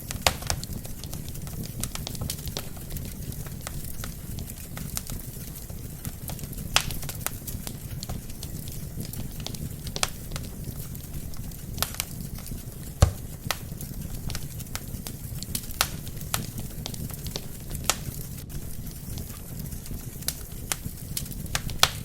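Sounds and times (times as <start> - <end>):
burning logs popping and crackling: 0.0 - 22.0
low rumble of flame: 0.0 - 22.0.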